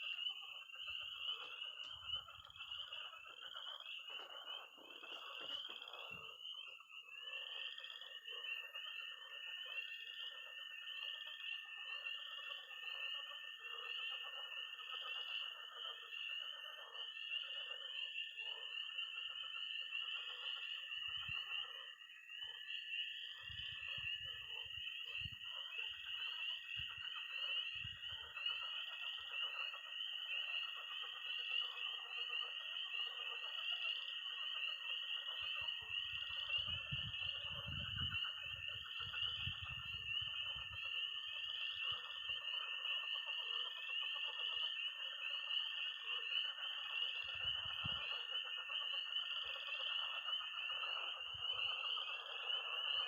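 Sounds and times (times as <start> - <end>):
frogs croaking: 0.0 - 53.0
high-pitched toad trill: 0.0 - 53.0
tree frogs peeping: 0.0 - 53.0.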